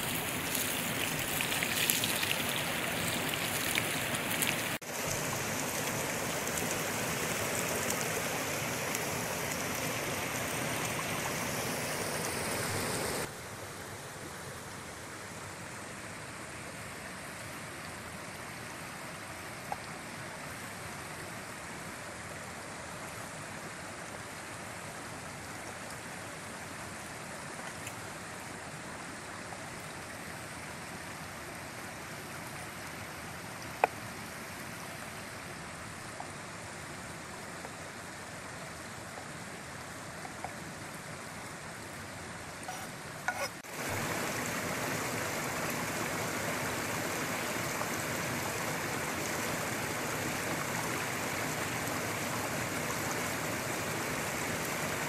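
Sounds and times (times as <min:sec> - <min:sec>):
forest stream rushing: 0:00.0 - 0:55.0.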